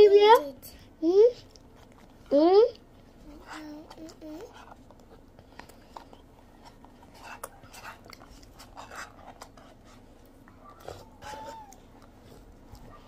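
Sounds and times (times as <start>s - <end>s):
person chewing ice cream: 1.4s - 13.0s.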